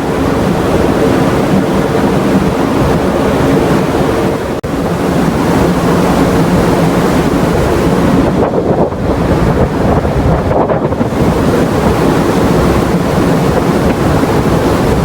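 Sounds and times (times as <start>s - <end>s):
sea water rushing: 0.0s - 15.0s
wind buffeting microphone: 0.0s - 15.0s.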